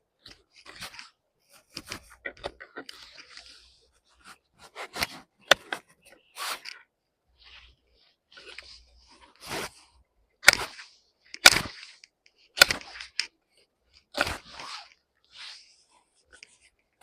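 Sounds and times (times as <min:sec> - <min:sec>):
short crunching scrape: 0:00.3 - 0:06.8, 0:08.4 - 0:13.4, 0:14.0 - 0:16.6.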